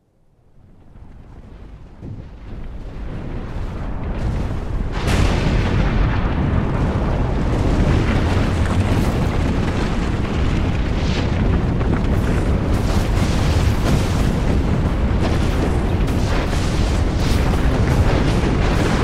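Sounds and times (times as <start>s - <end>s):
deep rumble: 0.5s - 19.0s
explosions and crashing impacts: 1.1s - 19.0s.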